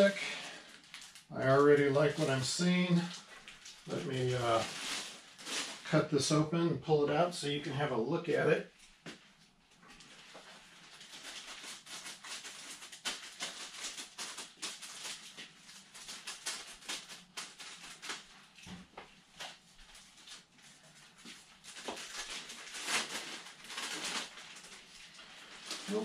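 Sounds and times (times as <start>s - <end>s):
plastic wrapping crinkling: 0.0s - 6.4s, 8.7s - 26.0s.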